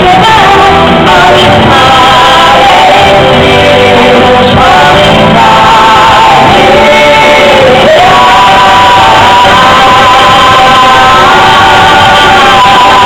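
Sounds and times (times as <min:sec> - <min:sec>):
musical accompaniment: 0:00.0 - 0:13.0
woman and man singing duet: 0:00.0 - 0:13.0.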